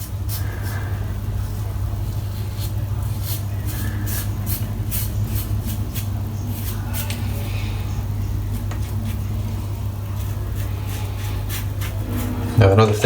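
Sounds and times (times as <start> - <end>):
razor scraping stubble: 0.0 - 13.0
steady low hum: 0.0 - 13.0.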